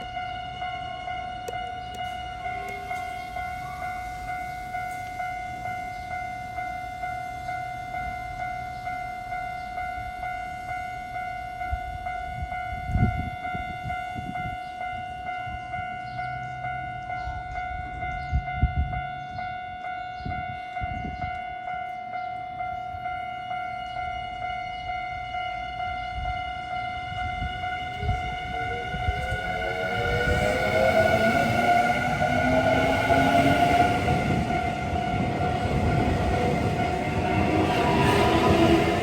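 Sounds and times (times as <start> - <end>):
level crossing warning bell ringing: 0.0 - 39.0.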